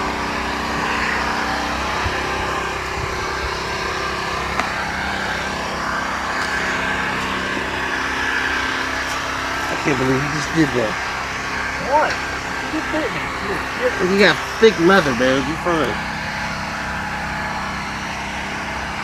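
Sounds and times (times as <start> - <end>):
engine humming steadily: 0.0 - 19.0.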